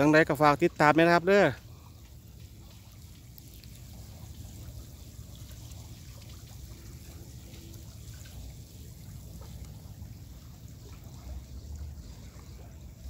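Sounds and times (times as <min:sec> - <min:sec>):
water running into a pond: 0:00.0 - 0:13.0.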